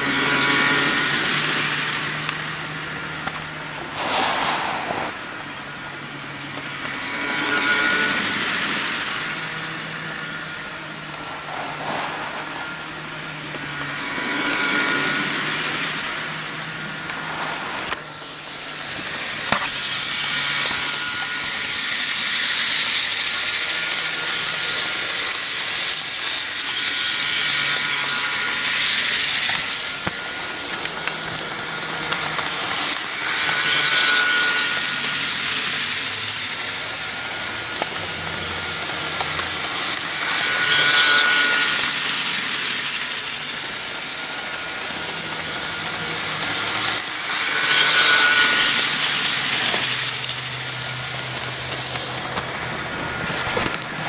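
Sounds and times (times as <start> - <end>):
model train motor whirring: 0.0 - 54.0.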